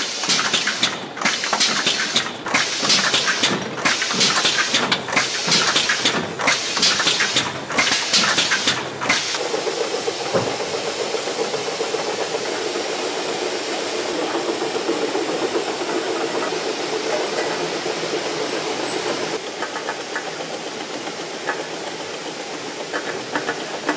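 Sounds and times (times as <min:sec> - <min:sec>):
machinery rattling and clicking: 0:00.0 - 0:23.9.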